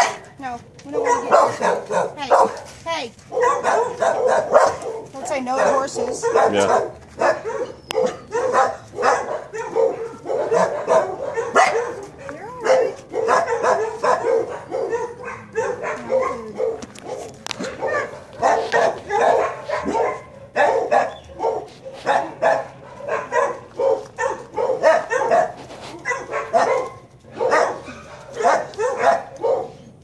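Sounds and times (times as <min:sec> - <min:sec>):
dog barking: 0:00.0 - 0:30.0.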